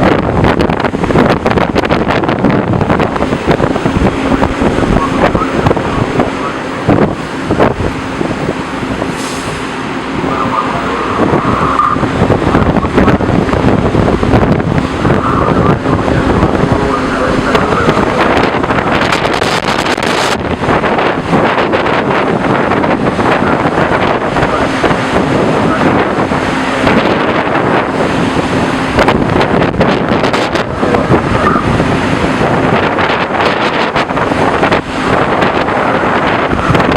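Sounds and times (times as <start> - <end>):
strong wind buffeting microphone: 0.0 - 36.9.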